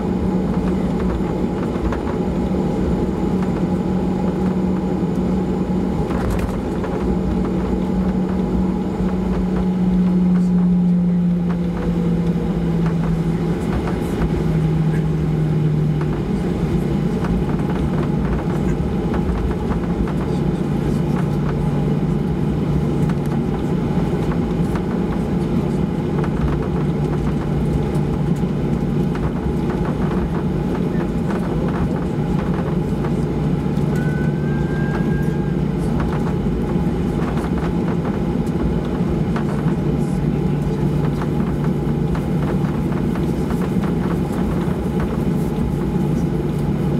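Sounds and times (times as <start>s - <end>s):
jet engines humming in cabin: 0.0s - 46.9s.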